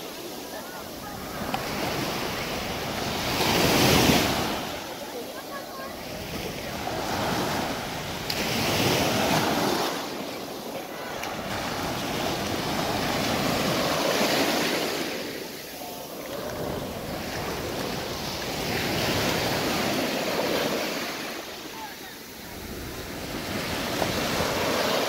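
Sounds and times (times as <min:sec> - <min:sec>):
surf breaking on beach: 0:00.0 - 0:25.0.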